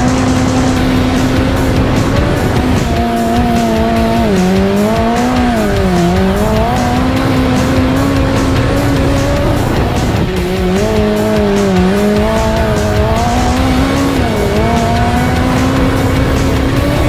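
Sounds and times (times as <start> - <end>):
racing engine at high revs: 0.0 - 17.0
wind and road rumble: 0.0 - 17.0.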